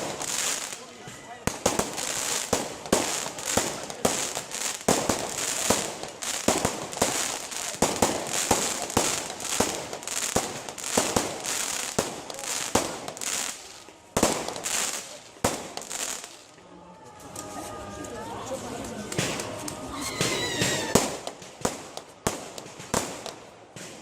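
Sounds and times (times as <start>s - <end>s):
fireworks bangs and booms: 0.0s - 16.5s, 19.0s - 24.0s
fireworks crackling: 0.0s - 16.6s, 17.2s - 24.0s.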